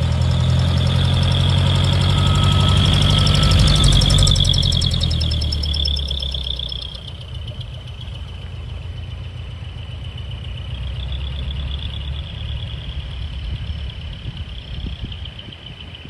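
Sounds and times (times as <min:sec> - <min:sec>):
truck diesel engine rumbling: 0:00.0 - 0:16.0.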